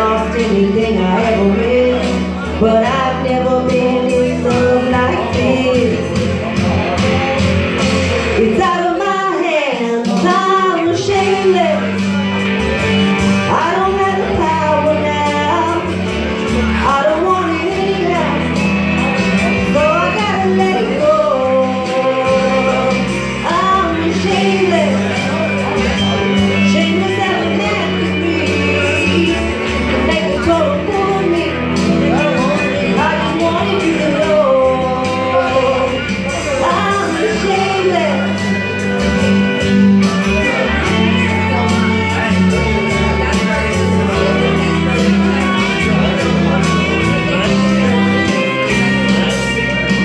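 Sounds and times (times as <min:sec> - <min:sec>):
guitar: 0:00.0 - 0:50.0
keyboard: 0:00.0 - 0:50.0
person singing: 0:00.0 - 0:50.0.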